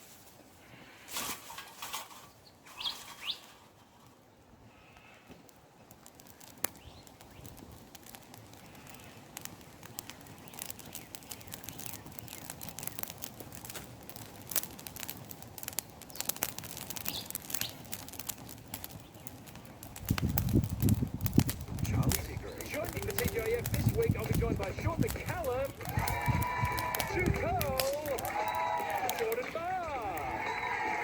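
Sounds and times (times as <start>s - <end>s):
campfire crackling and popping: 0.0s - 31.0s
low hiss of fire: 0.0s - 31.0s.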